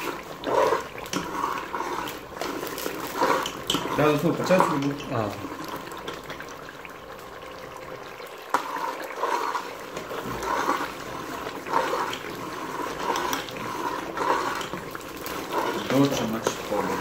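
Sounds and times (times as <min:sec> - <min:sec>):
curry bubbling at the boil: 0:00.0 - 0:17.0
ladle stirring: 0:00.0 - 0:17.0.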